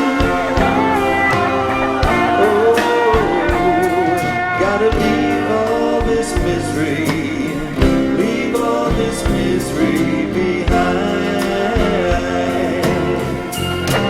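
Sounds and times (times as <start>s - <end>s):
guitar accompaniment: 0.0s - 14.0s
held notes with vibrato: 0.0s - 14.0s
live band music: 0.0s - 14.0s.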